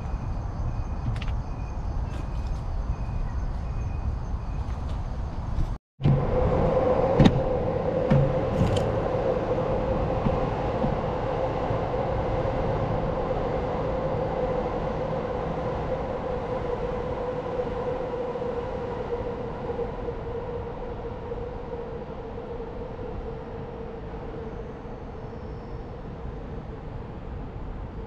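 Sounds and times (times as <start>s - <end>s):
vehicle engine humming: 0.0s - 25.7s.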